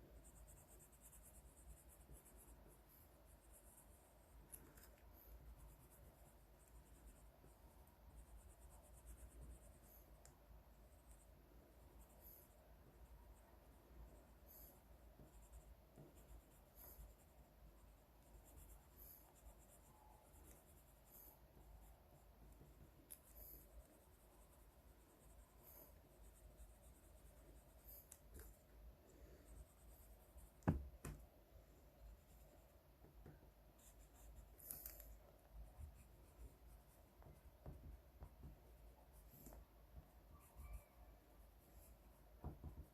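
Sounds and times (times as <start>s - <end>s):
pencil scratching on paper: 0.0s - 31.2s, 31.8s - 42.9s.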